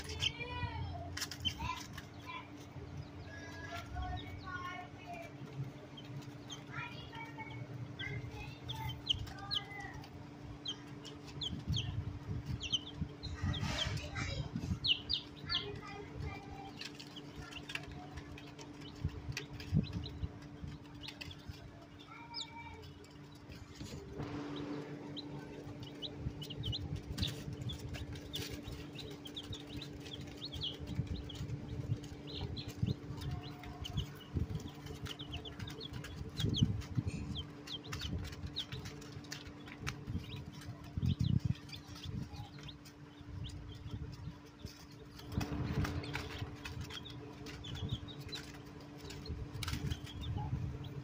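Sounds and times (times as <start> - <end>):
chick peeps: 0.0 - 51.0
chicks pecking beak taps: 0.0 - 51.0.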